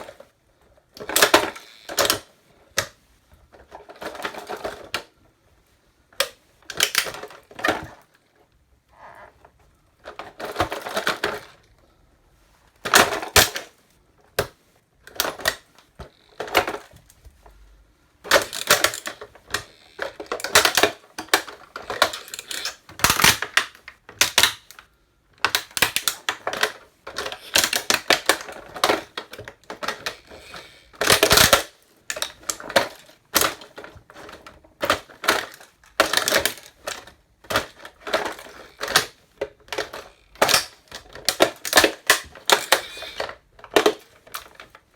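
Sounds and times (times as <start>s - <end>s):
plastic toy cracking and crunching: 0.0s - 5.3s, 6.1s - 8.2s, 9.0s - 12.0s, 12.8s - 44.9s.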